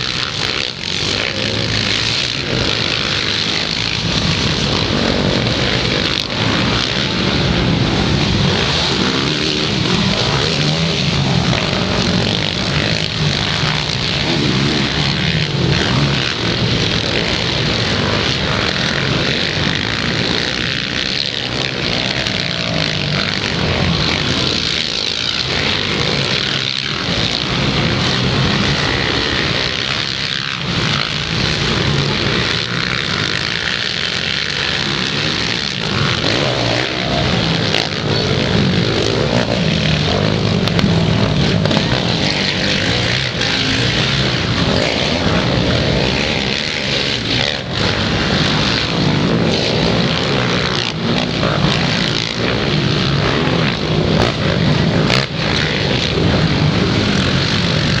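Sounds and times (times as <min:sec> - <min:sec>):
quad engines buzzing: 0:00.0 - 0:58.0.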